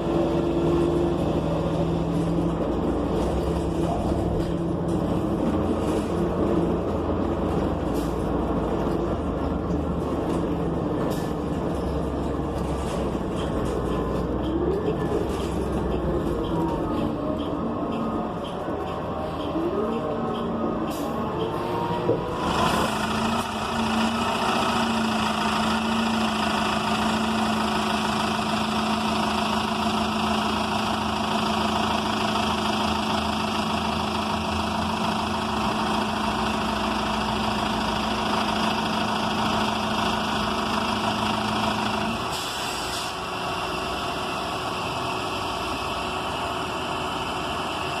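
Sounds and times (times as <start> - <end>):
bus engine idling: 0.0 - 48.0.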